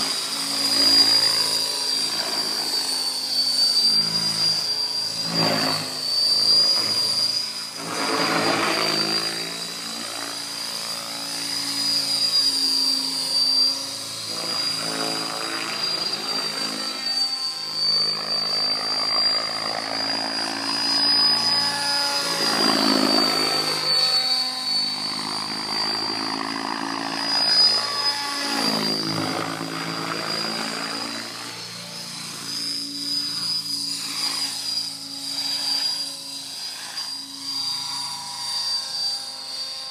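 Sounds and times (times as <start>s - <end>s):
helicopter rotor blade whine: 0.0s - 39.9s.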